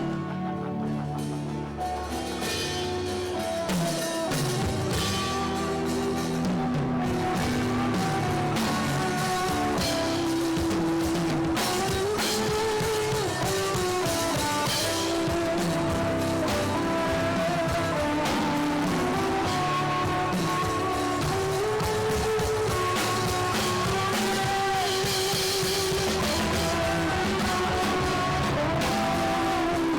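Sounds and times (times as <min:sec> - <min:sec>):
guitar and drum kit playing: 0:00.0 - 0:29.9.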